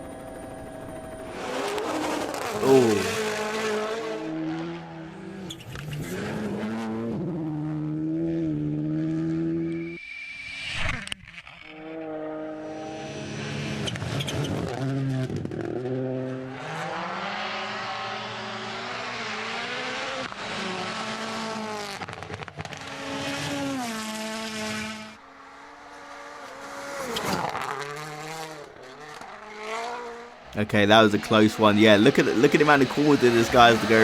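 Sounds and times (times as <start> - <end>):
rally car engine revving: 0.6 - 9.9, 11.8 - 34.0.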